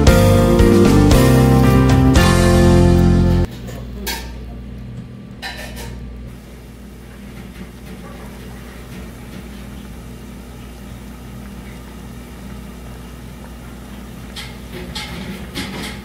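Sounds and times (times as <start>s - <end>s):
stove humming: 0.0s - 16.0s.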